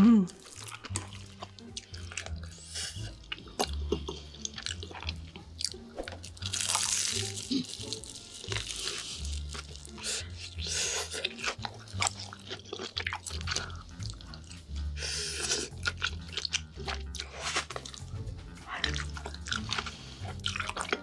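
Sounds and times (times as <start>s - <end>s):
background music with bass line: 0.0s - 21.0s
crunching and chewing fried food: 0.4s - 21.0s.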